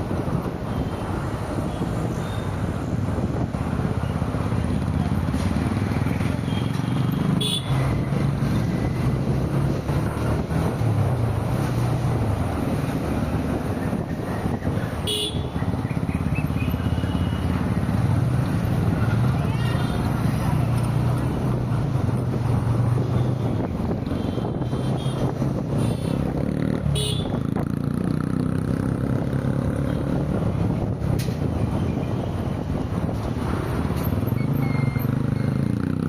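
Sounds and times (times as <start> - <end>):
traffic rumble of engines and tyres: 0.0 - 36.0.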